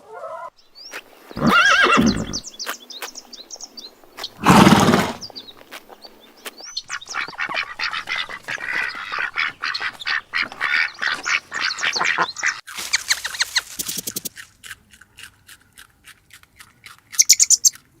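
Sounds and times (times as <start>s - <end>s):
birds calling: 0.2s - 14.4s, 17.1s - 17.8s.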